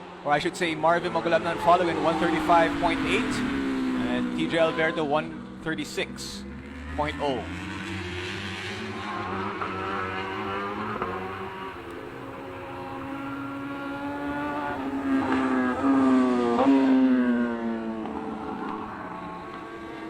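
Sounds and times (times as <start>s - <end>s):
superbike engines revving: 0.3s - 20.0s.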